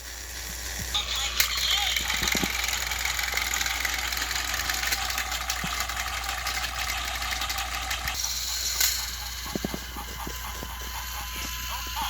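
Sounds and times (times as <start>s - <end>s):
toy train motors whirring: 0.0s - 12.0s.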